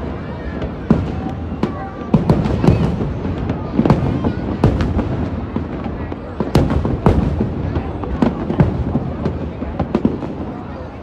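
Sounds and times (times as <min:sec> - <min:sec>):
continuous fireworks rumble: 0:00.0 - 0:11.0
fireworks bursting with sharp bangs: 0:00.0 - 0:11.0.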